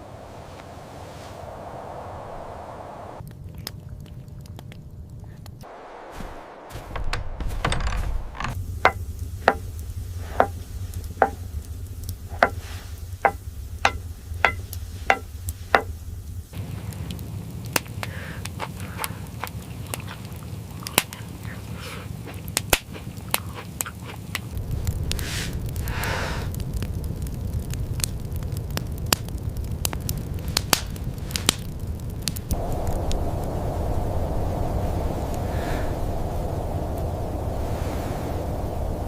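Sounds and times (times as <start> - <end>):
low rumble with crackles: 0.0 - 39.0.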